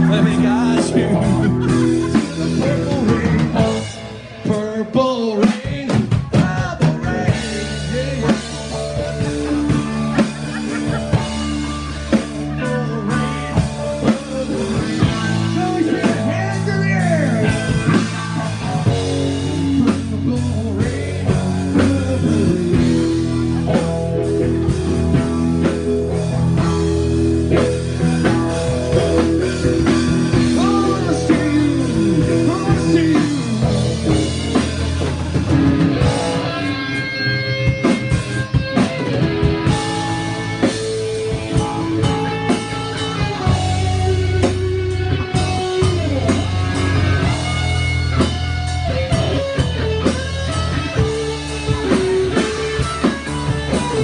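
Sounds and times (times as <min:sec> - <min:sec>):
lead guitar bending notes: 0:00.0 - 0:05.5, 0:06.1 - 0:54.0
rock band playing: 0:00.0 - 0:54.0.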